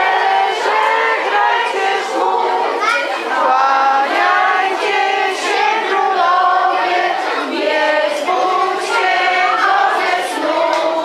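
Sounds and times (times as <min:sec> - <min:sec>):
group singing a carol: 0:00.0 - 0:11.0.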